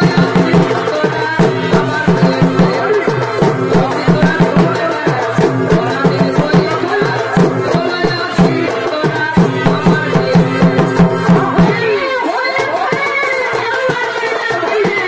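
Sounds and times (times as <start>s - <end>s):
drums beating fast rhythm: 0.0s - 15.0s.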